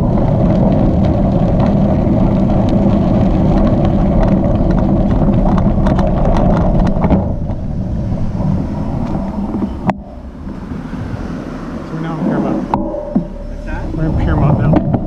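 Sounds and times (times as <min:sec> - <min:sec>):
bike rattling: 0:00.0 - 0:15.0
bike tyres rolling on gravel: 0:00.0 - 0:15.0
wind and road rumble: 0:00.0 - 0:15.0.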